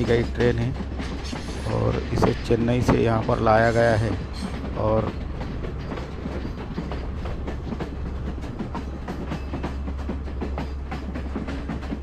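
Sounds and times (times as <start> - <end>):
train running gear rumble: 0.0 - 12.0
wheels clicking over rails: 0.0 - 12.0.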